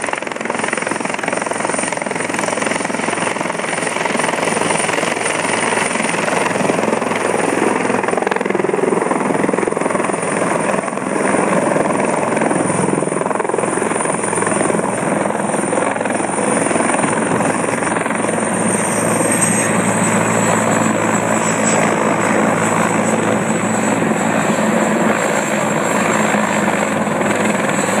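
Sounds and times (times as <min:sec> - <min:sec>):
helicopter turbine and rotor: 0:00.0 - 0:28.0.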